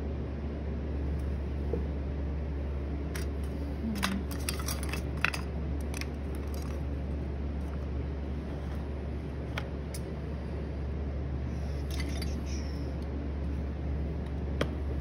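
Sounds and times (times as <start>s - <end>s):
pottery wheel motor hum: 0.0s - 15.0s.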